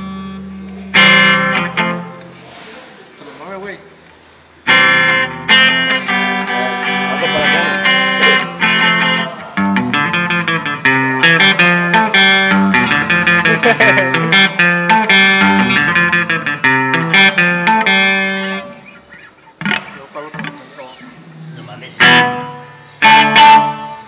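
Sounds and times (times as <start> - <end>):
electric guitar played fast: 0.0 - 2.4, 4.6 - 20.7, 21.7 - 24.0.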